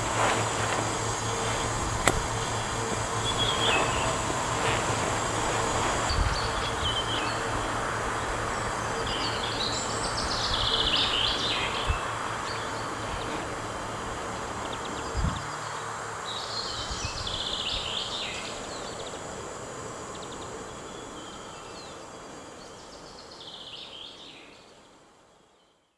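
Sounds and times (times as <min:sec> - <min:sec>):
steady rushing noise: 0:00.0 - 0:22.8
small bird singing: 0:00.8 - 0:24.9.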